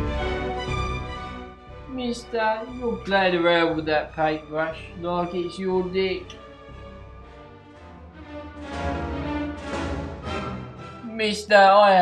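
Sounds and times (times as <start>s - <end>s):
low bass: 0.0s - 11.1s
orchestral strings: 0.0s - 11.8s.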